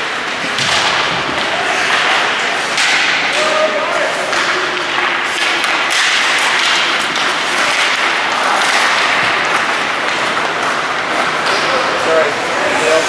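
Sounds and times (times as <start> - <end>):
hockey stick taps: 0.3 - 3.5, 4.3 - 11.7.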